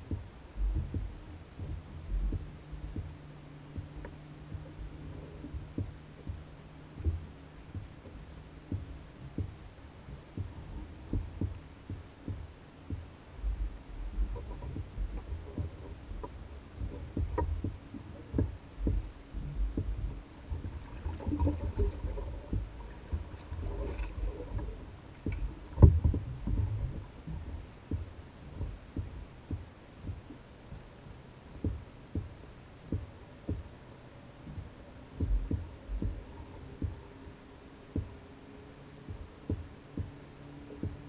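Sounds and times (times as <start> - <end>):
water lapping against canoe hull: 0.0 - 32.4, 34.4 - 37.2.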